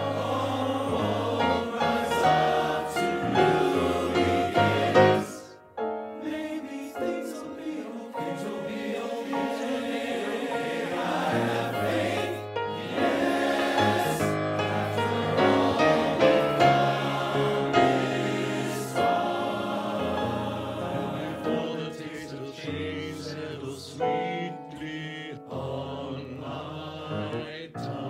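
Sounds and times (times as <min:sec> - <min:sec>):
men's choir singing chords: 0:00.0 - 0:28.0.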